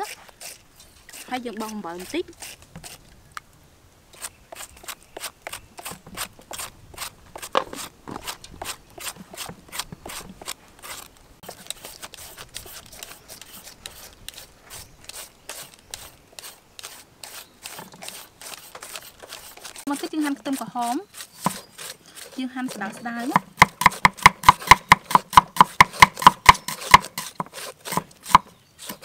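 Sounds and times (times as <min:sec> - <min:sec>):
peelers scraping vegetables: 0:00.0 - 0:03.2, 0:04.1 - 0:29.0.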